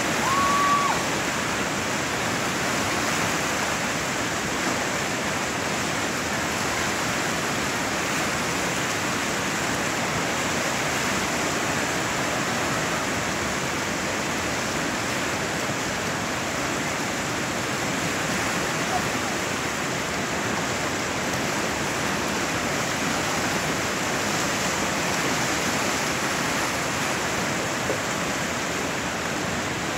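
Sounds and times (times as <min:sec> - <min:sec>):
river rapid rushing: 0:00.0 - 0:29.9.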